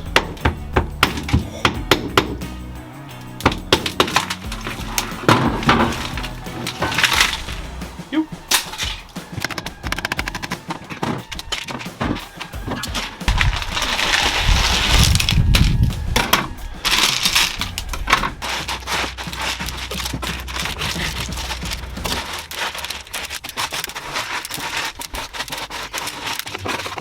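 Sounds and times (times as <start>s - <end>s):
brittle mat cracking and clattering: 3.3s - 7.7s, 8.5s - 27.0s.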